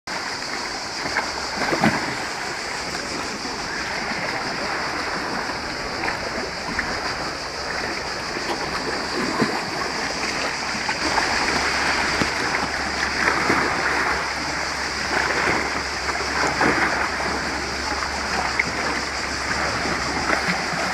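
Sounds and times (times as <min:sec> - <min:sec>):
sea water lapping on rocks: 0:00.1 - 0:20.9.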